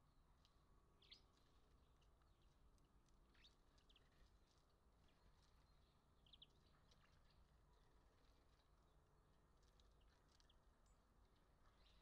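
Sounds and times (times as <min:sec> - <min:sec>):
small birds chirping: 0:01.0 - 0:02.6, 0:03.2 - 0:09.0, 0:09.6 - 0:12.0.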